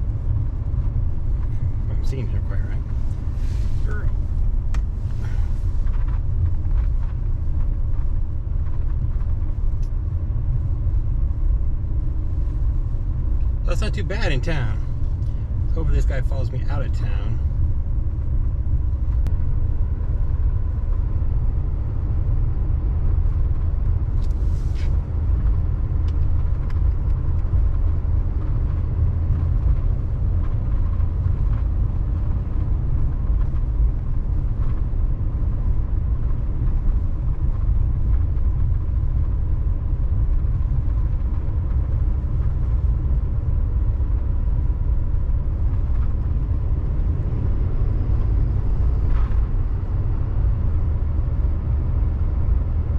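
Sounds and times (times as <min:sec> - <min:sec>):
diesel truck engine rumble: 0:00.0 - 0:52.9
road noise: 0:00.0 - 0:52.9.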